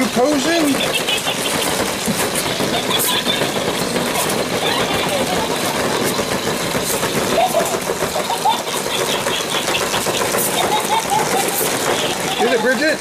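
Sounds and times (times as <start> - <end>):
plastic balls clattering: 0.0 - 13.0.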